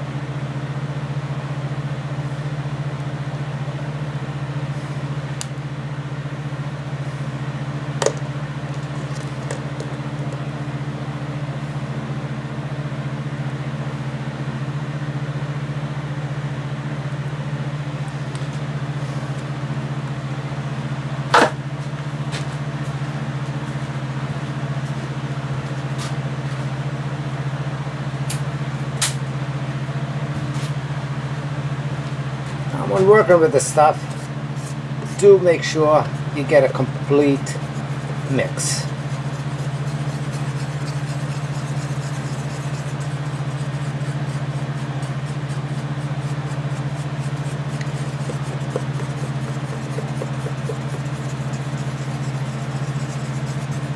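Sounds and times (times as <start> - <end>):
low machine hum: 0.0 - 53.9.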